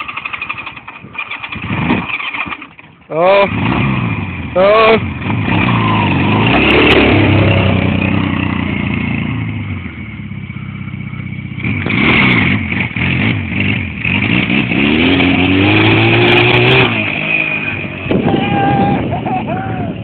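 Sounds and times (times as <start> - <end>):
quad bike engine revving: 0.0 - 20.0.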